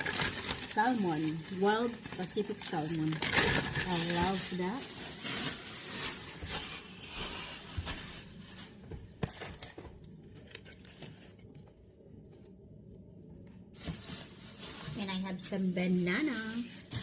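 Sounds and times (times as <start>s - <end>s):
packages rustling: 0.0s - 12.5s, 13.6s - 17.0s.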